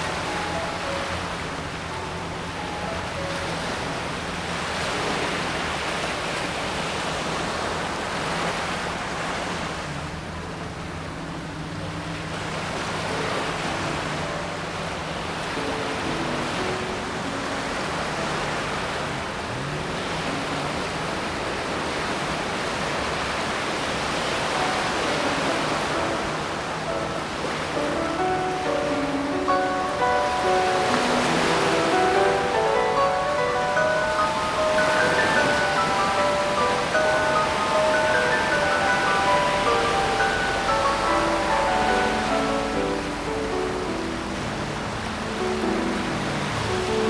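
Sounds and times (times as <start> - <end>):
ocean surf breaking on beach: 0.0 - 47.0.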